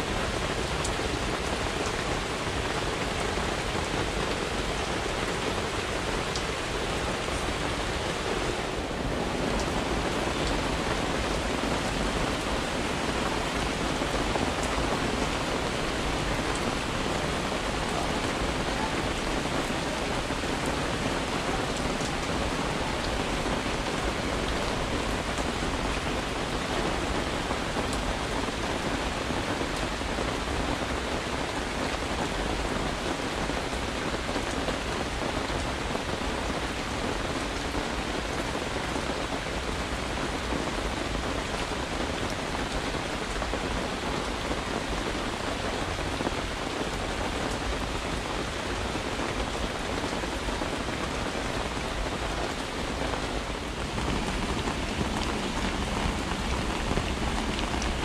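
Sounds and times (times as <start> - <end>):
rain on a tarp: 0.0 - 58.0.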